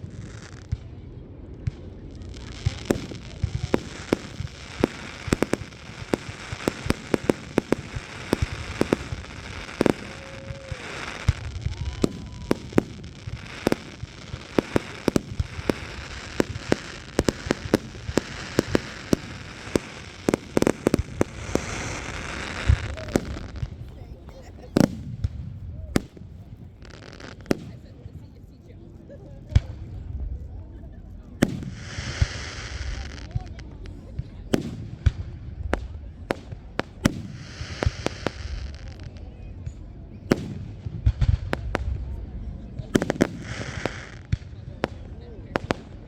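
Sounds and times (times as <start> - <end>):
fireworks bangs and pops: 0.0 - 28.3, 29.4 - 30.5, 31.2 - 46.0
fireworks crackle: 0.0 - 28.3, 31.1 - 46.0.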